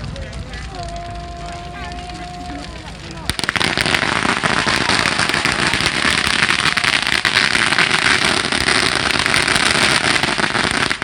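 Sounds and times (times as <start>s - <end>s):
firecrackers banging and crackling: 0.0s - 11.0s.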